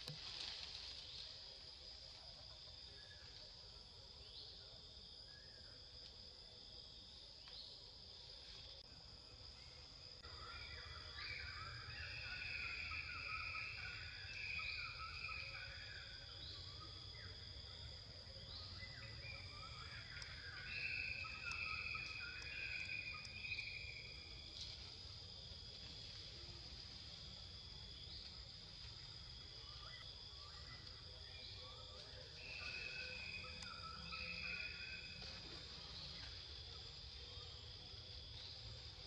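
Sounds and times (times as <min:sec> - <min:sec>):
insects droning: 0:00.0 - 0:39.0.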